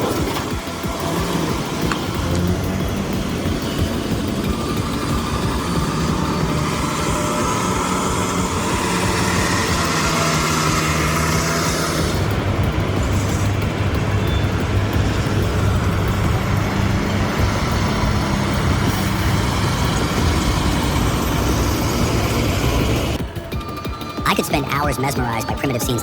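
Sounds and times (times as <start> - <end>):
diesel truck engine droning: 0.0 - 26.0.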